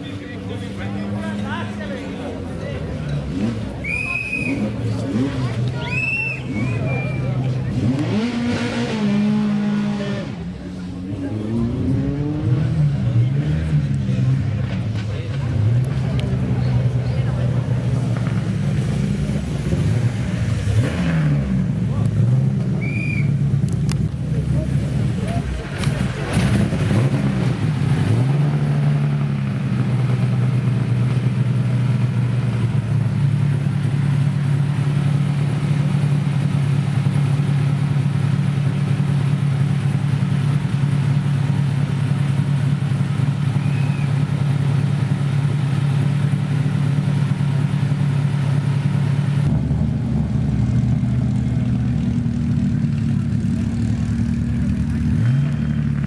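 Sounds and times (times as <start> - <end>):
racing car engine idling: 0.0 - 8.4, 9.4 - 20.8, 21.4 - 56.0
engine running: 0.0 - 56.0.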